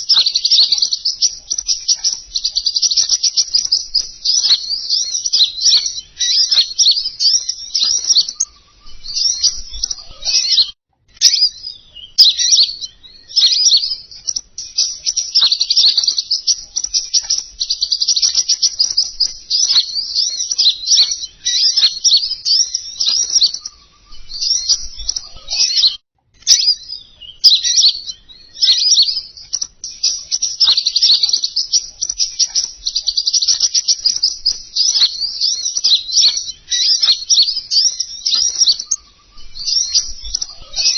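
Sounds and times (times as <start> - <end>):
songbird twittering: 0.0 - 40.9.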